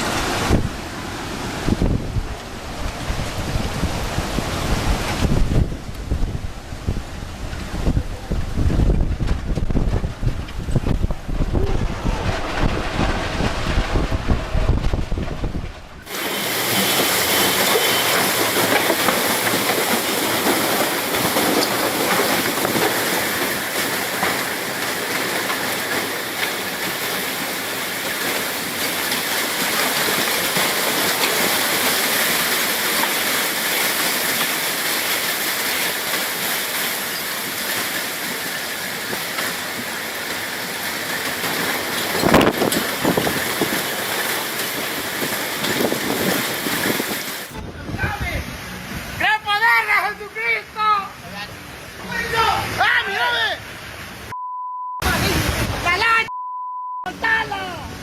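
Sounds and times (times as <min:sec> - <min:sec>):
driving rain: 0:00.0 - 0:54.3, 0:55.0 - 0:56.3, 0:57.1 - 0:58.0
wind: 0:00.0 - 0:58.0.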